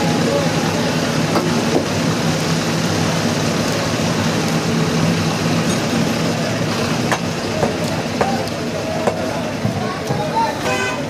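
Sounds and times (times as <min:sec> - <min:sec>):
constant noisy din: 0:00.0 - 0:11.0
engine drone: 0:00.0 - 0:11.0.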